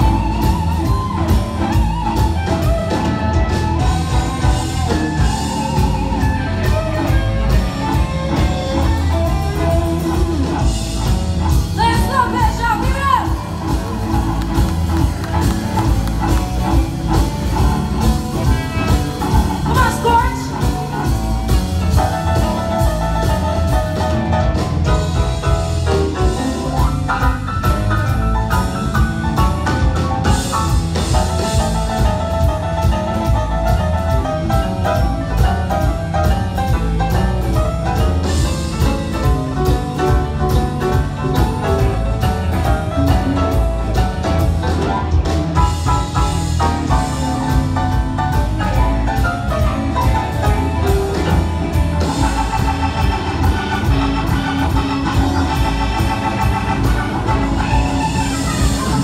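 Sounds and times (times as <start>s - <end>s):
blues-rock band playing: 0.0s - 59.0s
guitar lead line: 0.0s - 59.0s
steady drum beat: 0.0s - 59.0s.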